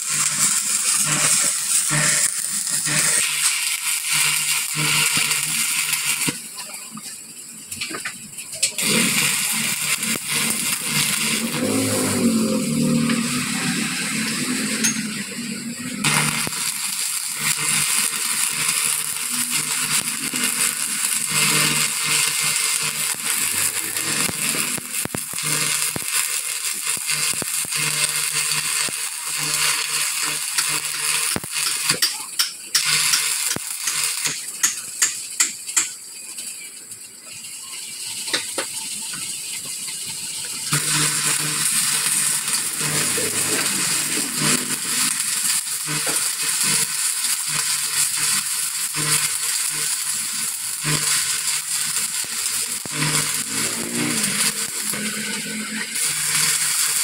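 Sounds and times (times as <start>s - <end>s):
welding arc crackling: 0.0s - 57.0s.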